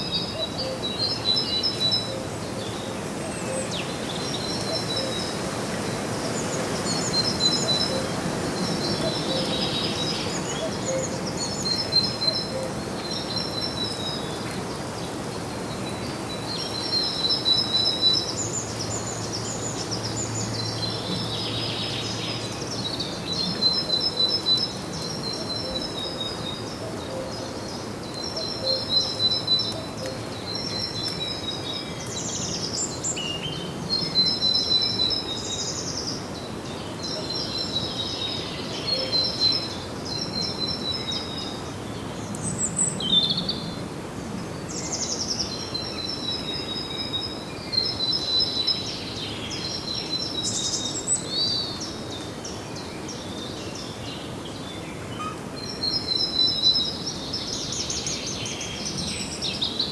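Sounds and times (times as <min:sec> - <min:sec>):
outdoor ambience hiss: 0:00.0 - 0:59.9
songbirds chirping: 0:00.0 - 0:59.9.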